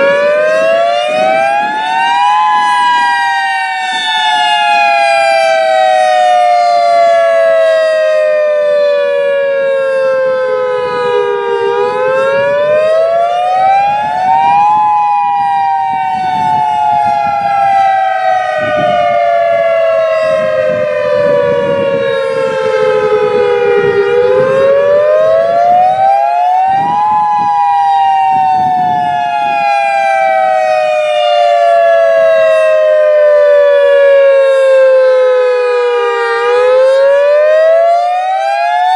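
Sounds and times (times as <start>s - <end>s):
outdoor warning siren wail: 0.0s - 38.9s.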